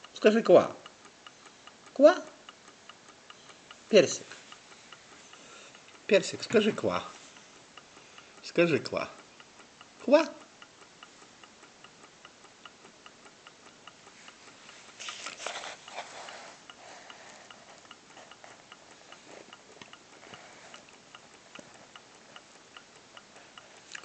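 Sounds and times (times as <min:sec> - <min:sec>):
clock ticking: 0:00.0 - 0:24.0.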